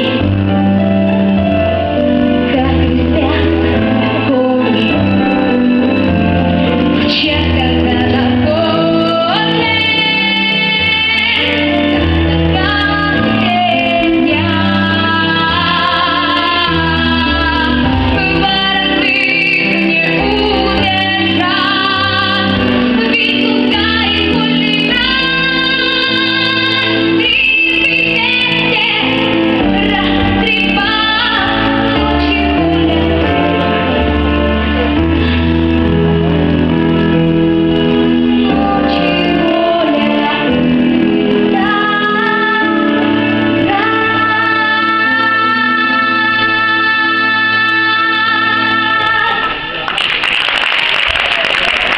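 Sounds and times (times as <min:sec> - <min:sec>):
instrumental accompaniment: 0:00.0 - 0:49.9
woman singing: 0:02.0 - 0:05.7, 0:06.6 - 0:34.2, 0:38.3 - 0:49.6.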